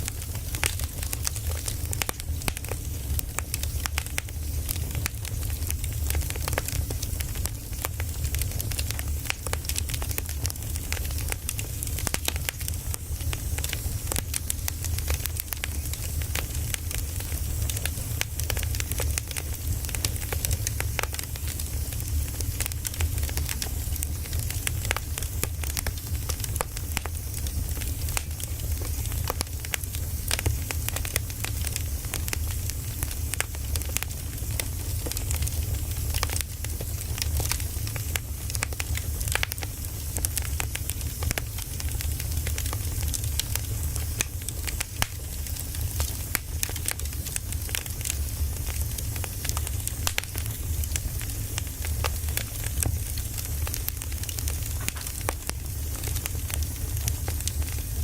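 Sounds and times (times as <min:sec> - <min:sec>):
firewood crackling and popping: 0:00.0 - 0:58.0
low fire rumble: 0:00.0 - 0:58.0.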